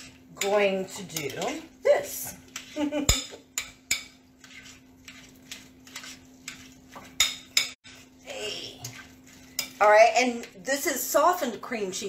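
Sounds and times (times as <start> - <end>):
utensil scraping glass bowl: 0.0 - 10.5.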